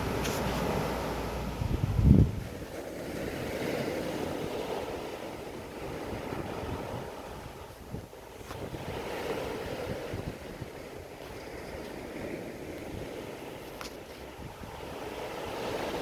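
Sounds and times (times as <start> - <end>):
waves washing in: 0.0 - 16.0.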